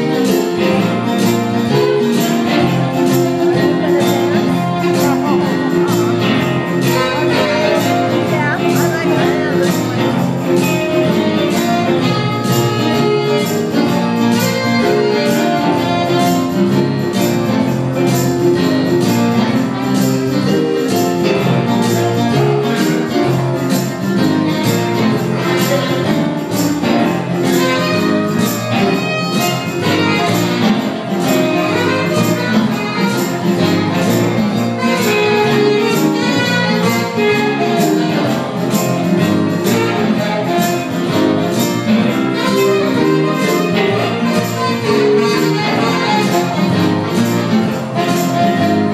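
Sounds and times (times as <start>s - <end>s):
electric guitars: 0.0s - 48.9s
saxophone: 0.0s - 48.9s.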